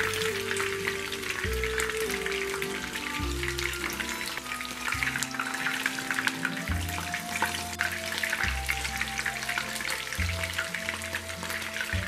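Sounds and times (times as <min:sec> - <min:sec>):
background music: 0:00.0 - 0:12.0
chicken deep-frying in oil: 0:00.0 - 0:12.0.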